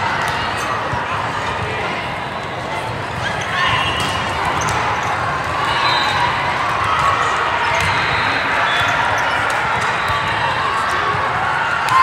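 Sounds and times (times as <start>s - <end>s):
crowd din in a large hall: 0.0s - 12.0s.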